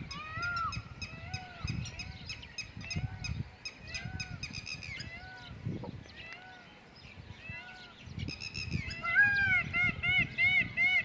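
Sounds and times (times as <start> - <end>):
birds chirping and calling: 0.0 - 11.0
wind buffeting microphone: 0.0 - 11.0.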